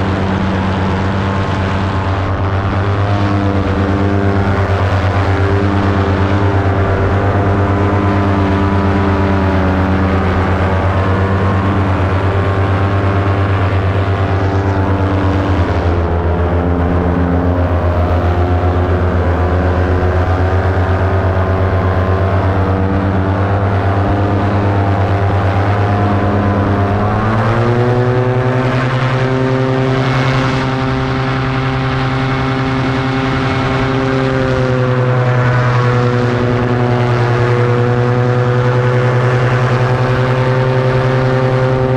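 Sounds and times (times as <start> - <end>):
paramotor engine and propeller: 0.0 - 41.9.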